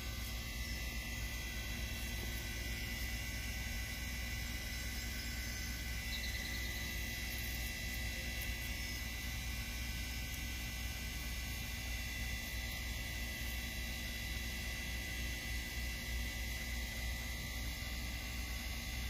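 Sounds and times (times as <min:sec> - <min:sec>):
steady low hum: 0:00.0 - 0:19.0
thin high whine: 0:00.0 - 0:19.0.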